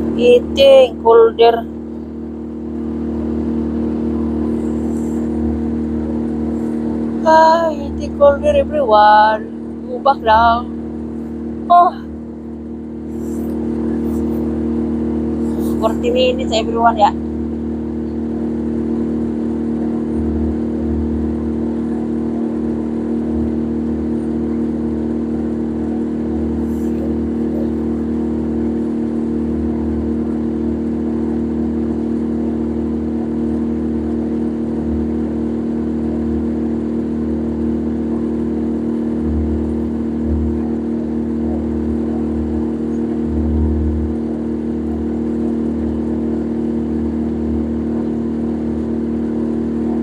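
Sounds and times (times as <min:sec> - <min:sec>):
boat engine droning: 0:00.0 - 0:50.0.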